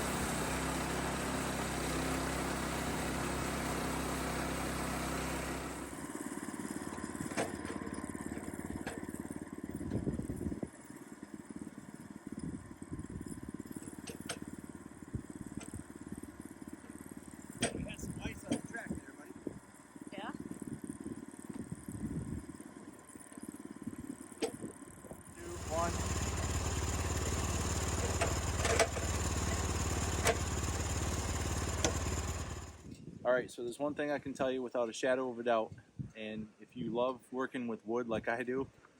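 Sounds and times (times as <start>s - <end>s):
gas engine idling: 0.0s - 21.5s, 22.4s - 32.9s.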